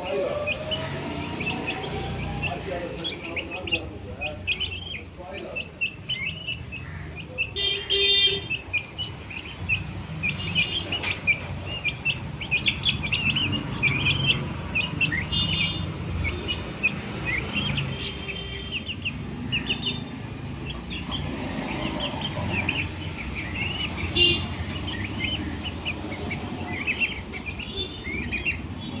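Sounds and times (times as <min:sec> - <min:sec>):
baby chicks peeping: 0:00.0 - 0:29.0
shrill chick calls: 0:00.0 - 0:29.0.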